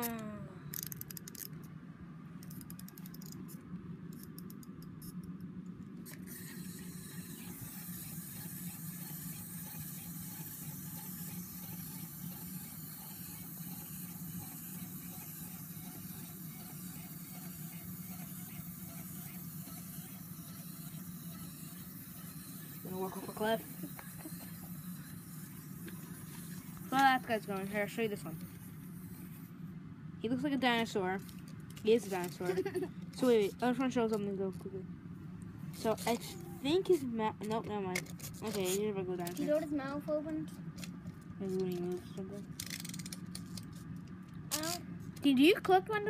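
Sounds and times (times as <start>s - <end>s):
clockwork toy whirring: 0.0s - 1.6s, 2.4s - 3.5s, 6.1s - 29.5s, 30.8s - 34.3s, 35.7s - 40.1s, 40.8s - 43.8s, 44.5s - 45.8s.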